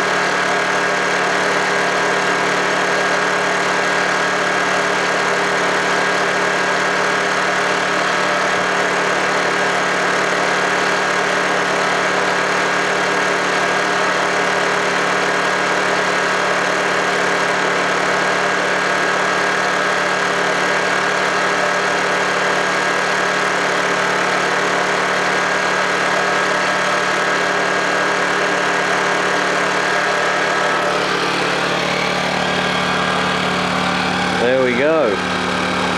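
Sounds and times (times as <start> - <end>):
portable generator engine running: 0.0 - 35.9.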